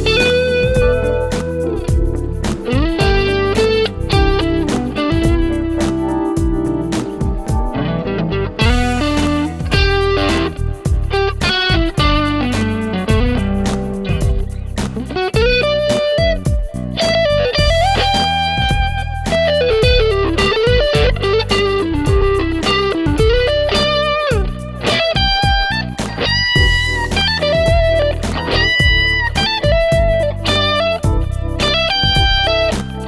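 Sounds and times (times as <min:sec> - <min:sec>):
drums: 0:00.0 - 0:07.8, 0:08.6 - 0:33.0
bass: 0:00.0 - 0:33.0
electric guitar lead line: 0:00.0 - 0:33.0.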